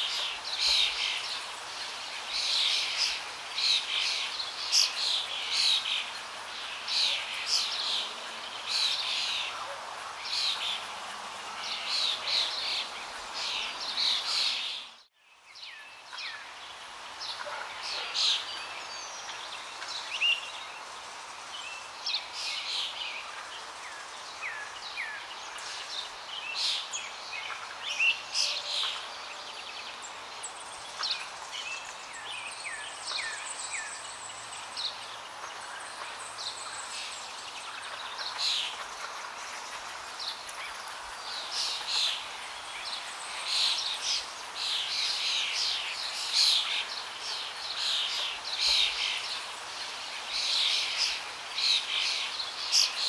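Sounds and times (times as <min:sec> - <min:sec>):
small birds chirping: 0:00.0 - 0:53.0
steady background hiss: 0:00.0 - 0:53.0.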